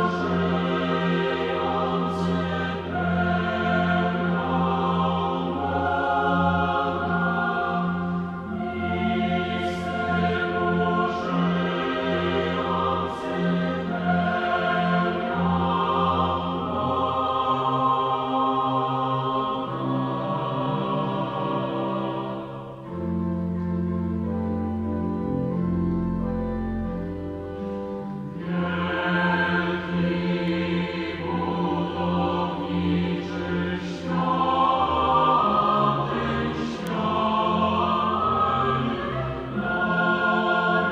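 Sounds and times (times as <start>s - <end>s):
mixed choir singing: 0.0s - 23.3s, 28.3s - 40.9s.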